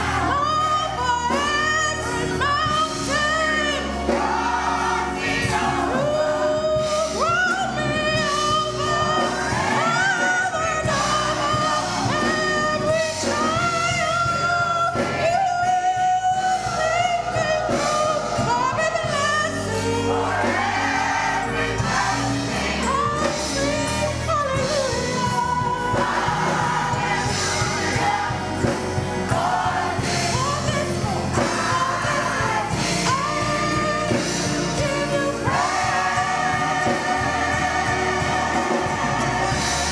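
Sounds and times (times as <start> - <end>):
gospel choir singing: 0.0 - 39.9.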